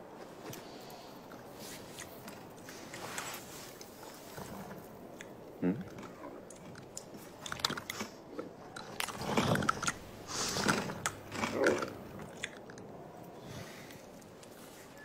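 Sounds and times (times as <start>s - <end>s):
crunchy wet chewing: 0.4s - 15.0s.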